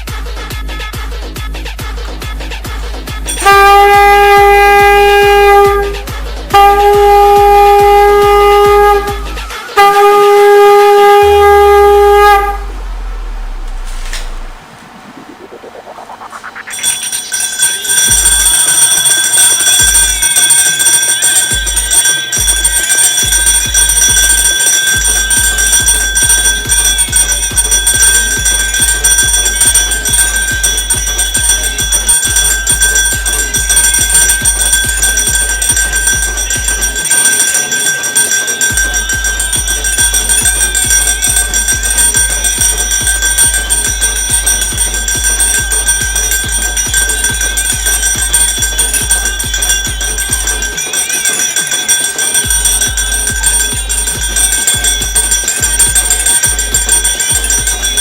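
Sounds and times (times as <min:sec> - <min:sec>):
hand bell ringing rapidly: 0:00.0 - 0:12.6, 0:16.6 - 0:58.0
low pulsing beat: 0:00.0 - 0:17.4, 0:18.0 - 0:58.0.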